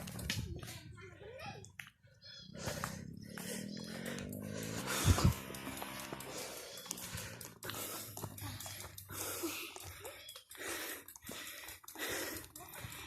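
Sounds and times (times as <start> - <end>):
person breathing hard: 2.1 - 13.0.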